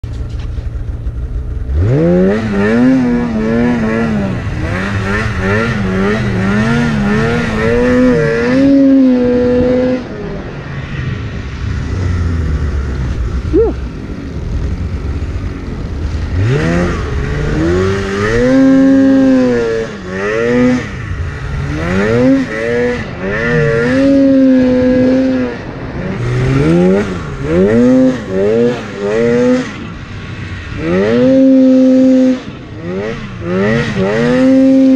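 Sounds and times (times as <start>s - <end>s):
snowmobile engine revving: 1.2s - 34.9s.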